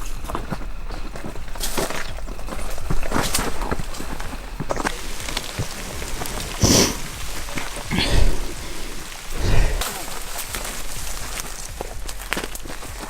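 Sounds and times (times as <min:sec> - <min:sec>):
brush rustling: 0:00.0 - 0:13.0
footsteps crunching on dry ground: 0:00.0 - 0:13.0.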